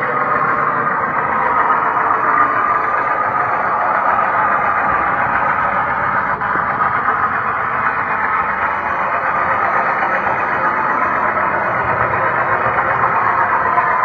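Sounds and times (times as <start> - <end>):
model train wheels rumbling on rails: 0.0 - 14.0.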